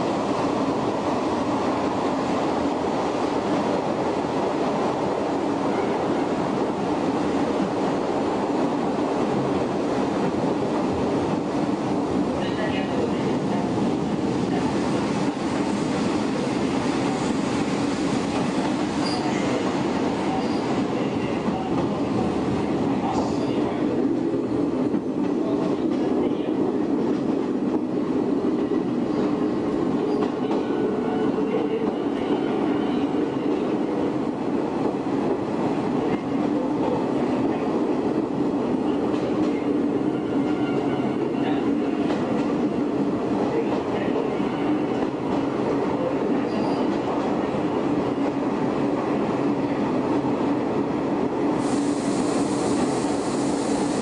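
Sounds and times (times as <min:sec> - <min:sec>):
electric train running rumble: 0:00.0 - 0:54.0.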